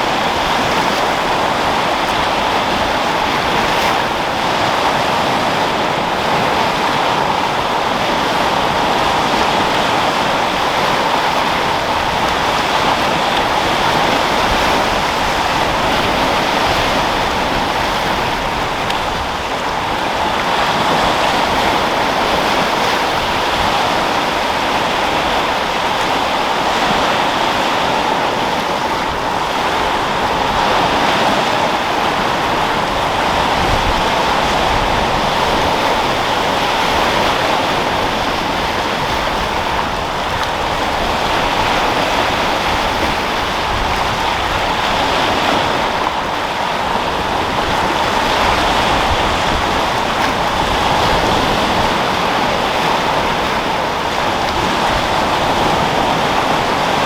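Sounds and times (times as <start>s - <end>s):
sea waves washing in: 0.0s - 57.0s
wind: 0.0s - 57.0s.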